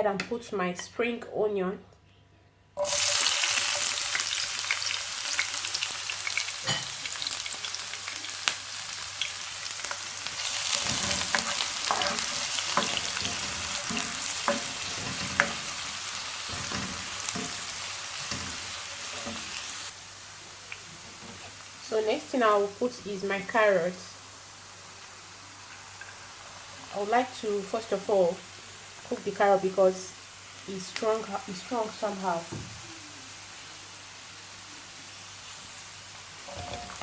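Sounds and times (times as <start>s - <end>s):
onions sizzling in oil: 2.8s - 37.0s.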